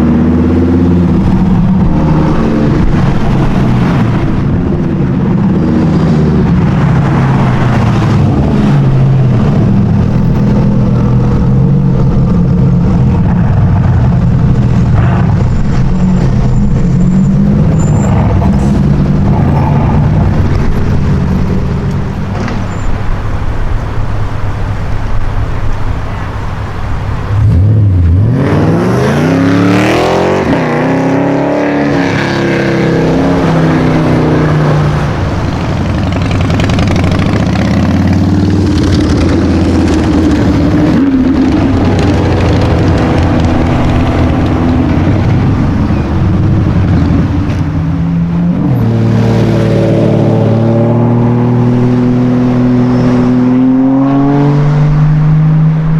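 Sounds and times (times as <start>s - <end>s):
sports car engine revving: 0.0s - 55.9s.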